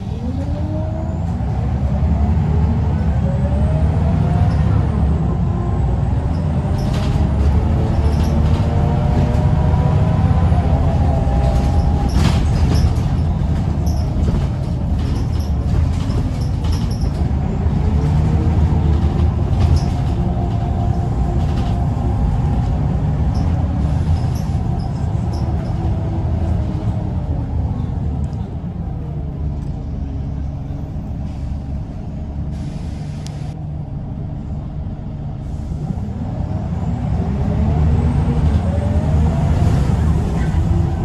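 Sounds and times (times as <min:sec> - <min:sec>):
bus diesel engine under load: 0:00.0 - 0:41.0.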